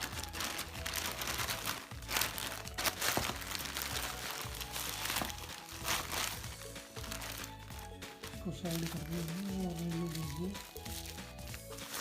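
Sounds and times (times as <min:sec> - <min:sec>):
background music: 0:00.0 - 0:12.0
packaging crinkling and rustling: 0:00.0 - 0:12.0.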